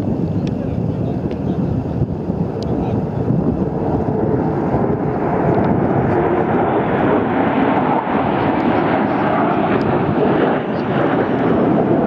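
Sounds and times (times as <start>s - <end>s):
fighter jet flyover: 0.0s - 12.0s.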